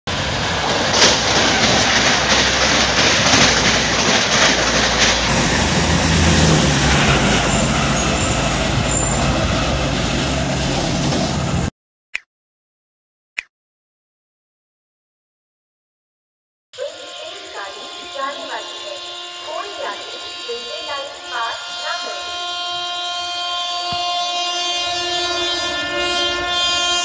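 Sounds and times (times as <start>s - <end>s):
train passing at high speed: 0.1s - 11.7s, 16.8s - 27.0s.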